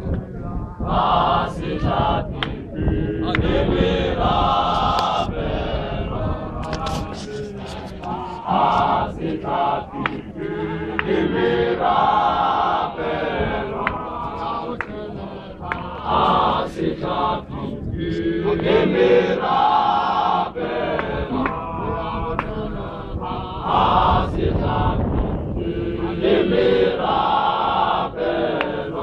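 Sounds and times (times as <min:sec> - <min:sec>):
men's choir chanting a hymn: 0:00.0 - 0:29.0.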